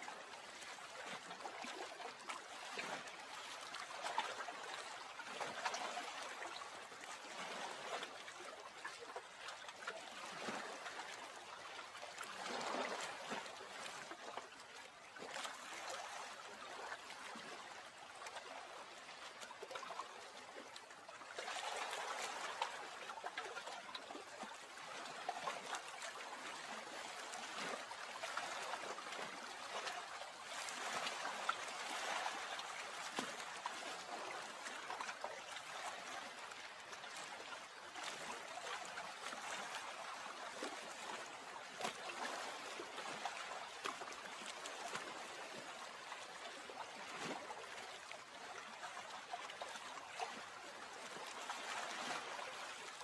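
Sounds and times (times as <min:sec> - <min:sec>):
water trickling and lapping: 0:00.0 - 0:53.0.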